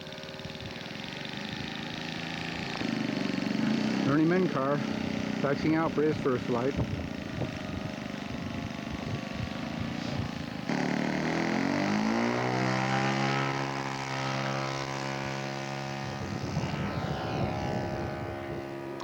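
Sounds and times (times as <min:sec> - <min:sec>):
model airplane engine running: 0:00.0 - 0:19.0.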